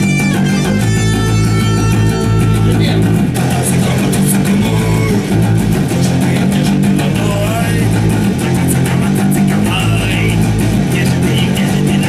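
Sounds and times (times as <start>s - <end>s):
electric and bass guitar rock riff: 0.0s - 12.0s.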